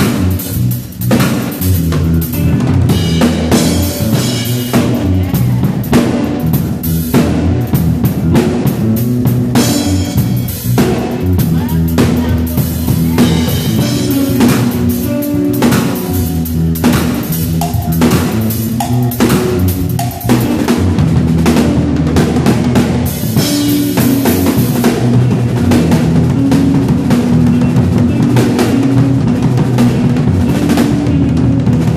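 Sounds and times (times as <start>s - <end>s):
drum kit playing: 0.0s - 31.9s
low bass notes: 0.0s - 31.9s.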